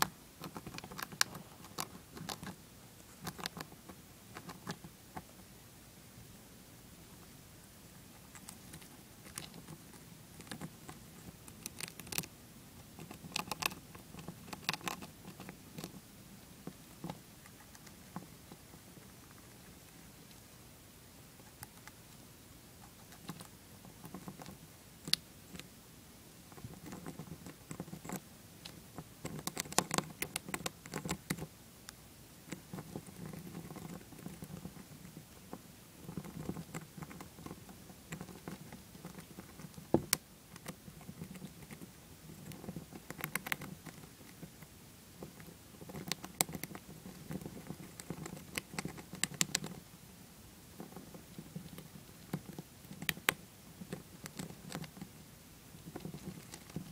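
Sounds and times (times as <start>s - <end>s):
hamster gnawing peanut: 0.0s - 5.5s, 7.1s - 56.9s.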